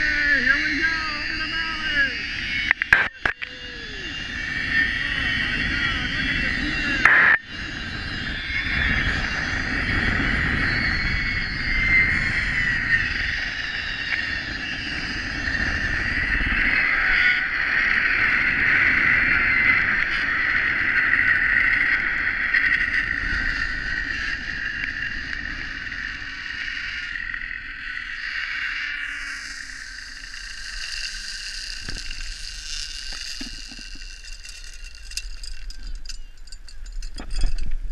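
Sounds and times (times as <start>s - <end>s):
wind on microphone: 0.0s - 37.9s
zip-line pulleys whirring on cable: 0.0s - 37.9s.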